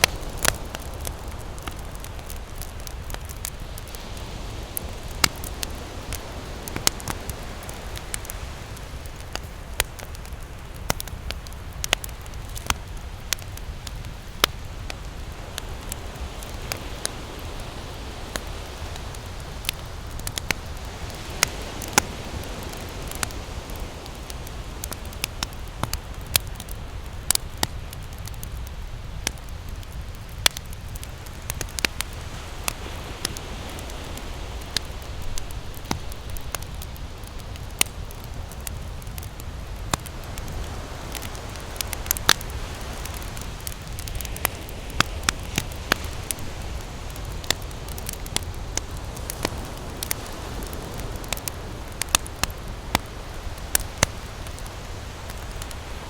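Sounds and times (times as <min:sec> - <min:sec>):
campfire crackling and popping: 0:00.0 - 0:56.0
ocean surf rumble: 0:00.0 - 0:56.0.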